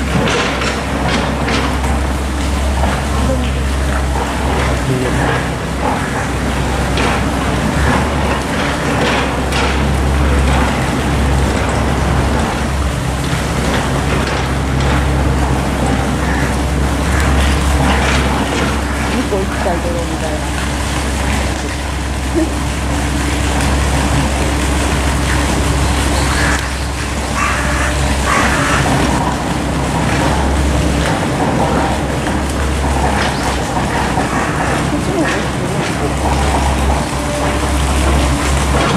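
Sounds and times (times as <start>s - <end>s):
construction machinery engine drone: 0.0s - 38.9s.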